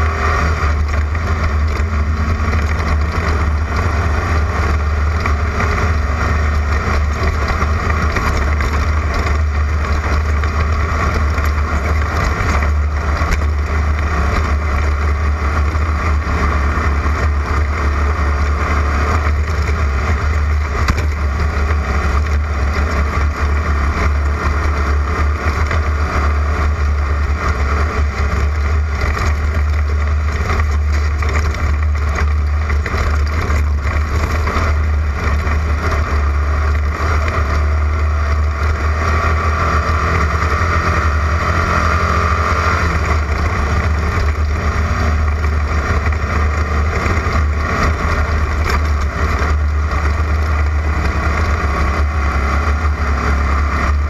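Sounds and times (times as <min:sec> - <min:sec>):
heavy low rumble: 0:00.0 - 0:54.0
race car engine running hard: 0:00.0 - 0:54.0.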